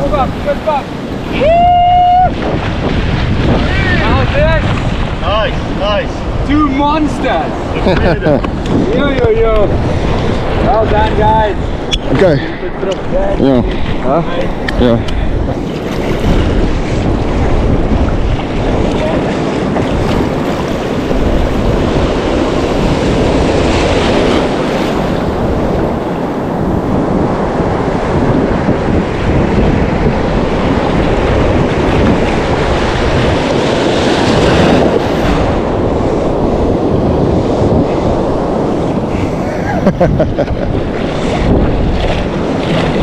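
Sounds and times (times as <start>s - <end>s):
surf breaking on beach: 0.0s - 43.0s
wind buffeting microphone: 0.0s - 43.0s.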